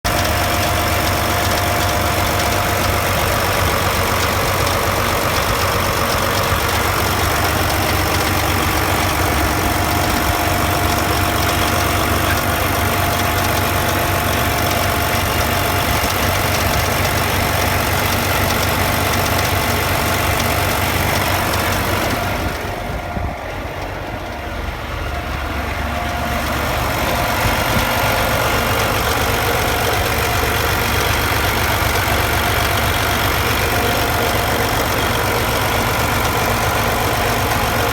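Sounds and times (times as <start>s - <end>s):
engine idling: 0.0s - 37.9s.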